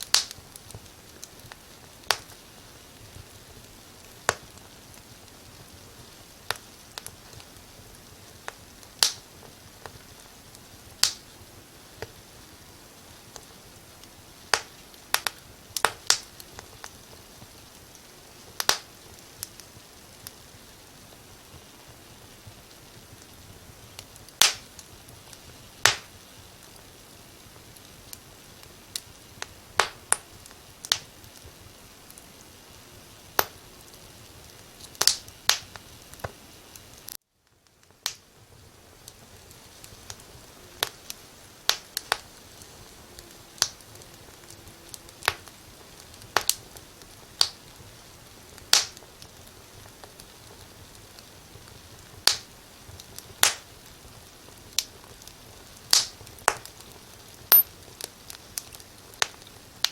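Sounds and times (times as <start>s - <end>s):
fire low hiss: 0.0s - 59.9s
wood fire crackling and popping: 0.0s - 59.9s.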